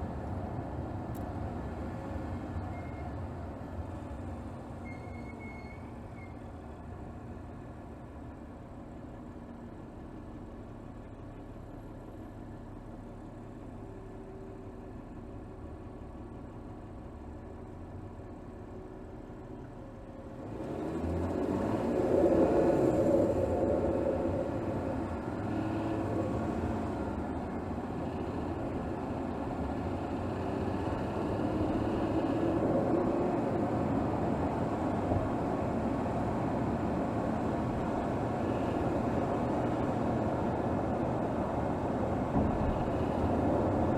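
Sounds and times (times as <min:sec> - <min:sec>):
car engine running steadily: 0:00.0 - 0:43.9.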